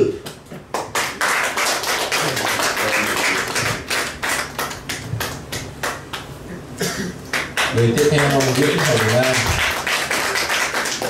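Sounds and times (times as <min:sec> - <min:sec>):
audience clapping: 0:00.2 - 0:06.4, 0:07.2 - 0:11.0.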